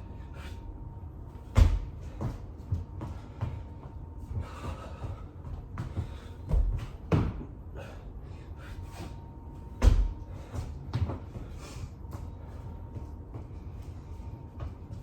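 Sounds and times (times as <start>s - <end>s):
thuds of person exercising on floor: 1.4s - 7.6s, 8.9s - 15.0s.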